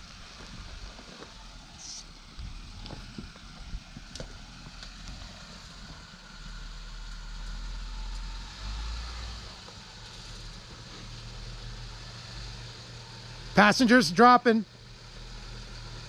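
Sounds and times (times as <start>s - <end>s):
engine rumbling low: 0.0s - 16.0s.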